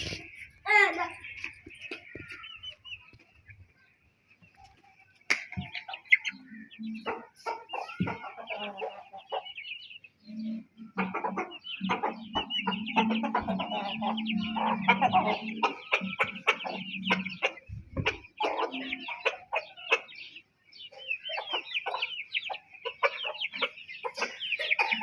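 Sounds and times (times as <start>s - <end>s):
chickens clucking: 0.0s - 25.0s
chicks peeping: 0.0s - 25.0s.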